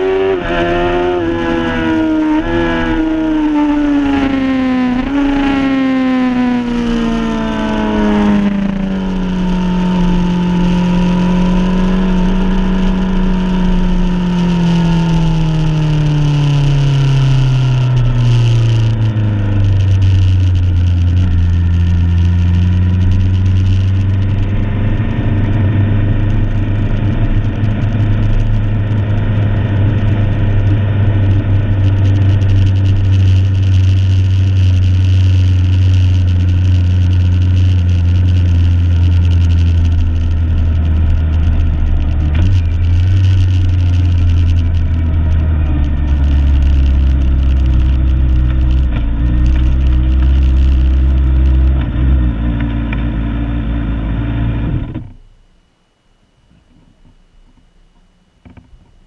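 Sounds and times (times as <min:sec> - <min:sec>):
motorbike engine: 0:00.0 - 0:55.2.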